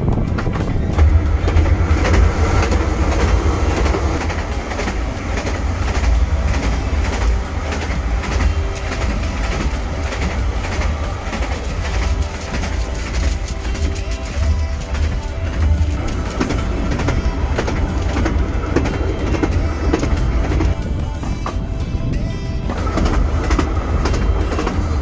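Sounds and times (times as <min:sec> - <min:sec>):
train rumbling: 0:00.0 - 0:25.0
wheels clicking over rail joints: 0:00.0 - 0:25.0.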